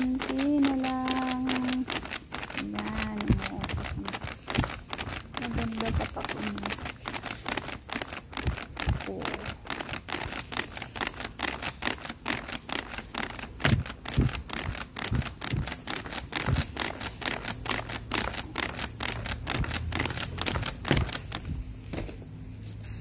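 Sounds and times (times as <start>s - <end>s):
fat crackling on charcoal: 0.0s - 23.0s.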